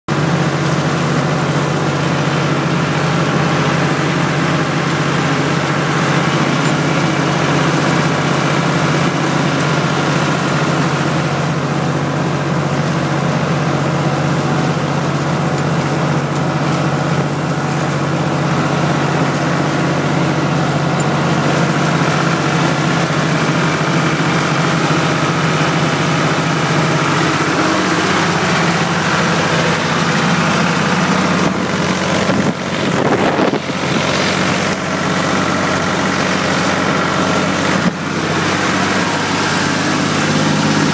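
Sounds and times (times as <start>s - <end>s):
tractor engine running: 0.1s - 40.9s.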